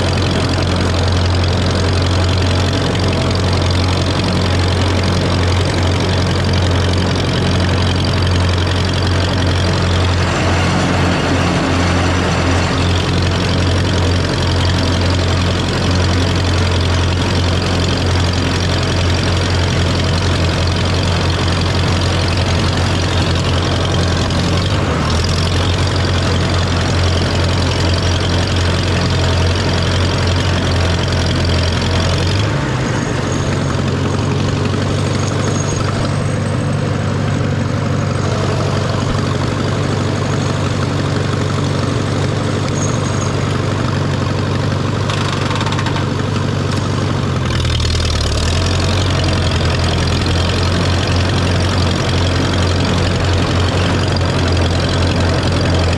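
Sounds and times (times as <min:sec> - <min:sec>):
tractor engine running under load: 0:00.0 - 0:55.9.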